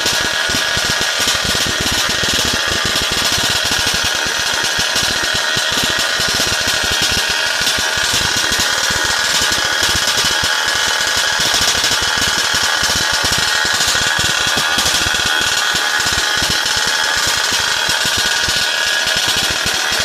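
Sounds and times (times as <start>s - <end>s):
two-stroke engine running: 0.0s - 20.0s.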